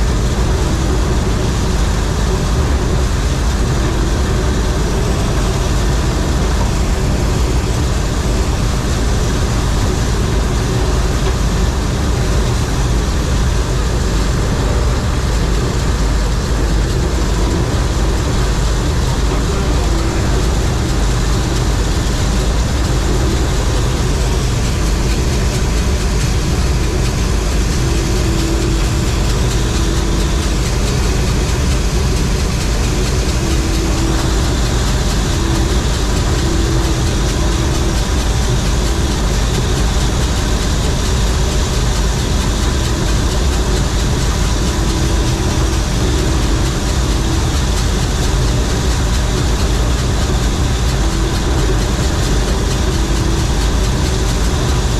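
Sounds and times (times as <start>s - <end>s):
combine harvester engine drone: 0.0s - 54.9s.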